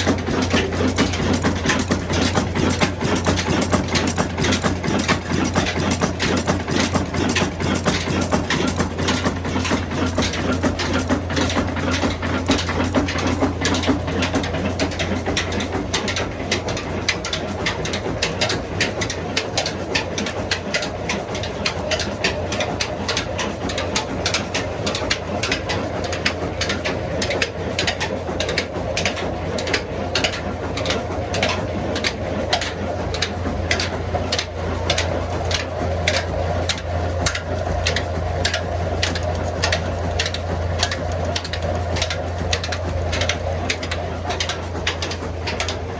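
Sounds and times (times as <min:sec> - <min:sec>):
diesel engine running slowly: 0:00.0 - 0:45.9.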